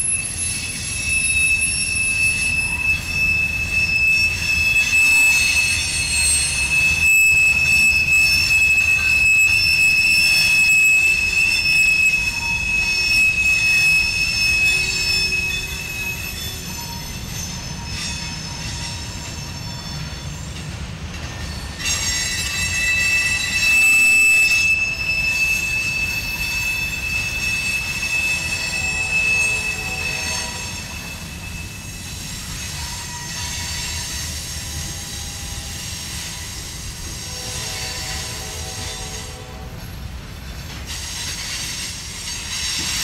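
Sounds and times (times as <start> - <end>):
freight train wheels rumbling: 0.0 - 43.0
steel wheel squeals: 0.0 - 43.0.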